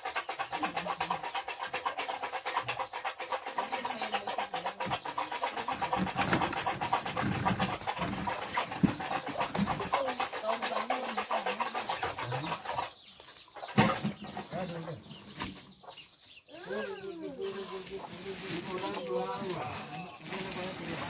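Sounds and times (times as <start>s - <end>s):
chickens clucking: 0.0s - 21.0s
voices in background: 0.0s - 21.0s.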